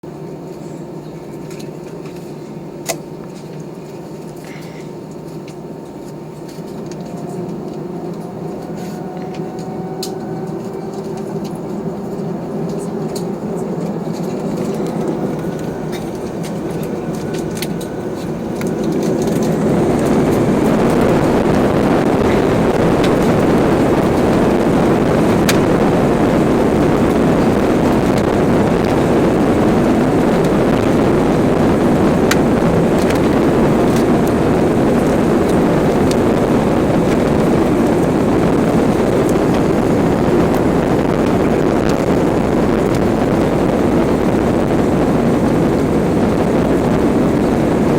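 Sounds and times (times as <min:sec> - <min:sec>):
jet engines spooling up: 0:00.4 - 0:47.9.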